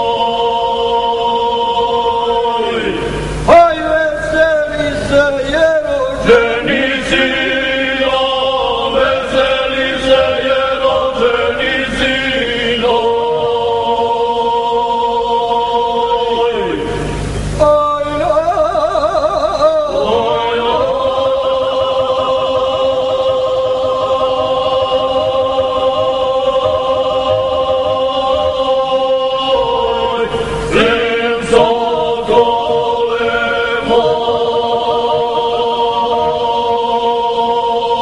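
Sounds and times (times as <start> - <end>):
men singing in close harmony: 0.0 - 38.0.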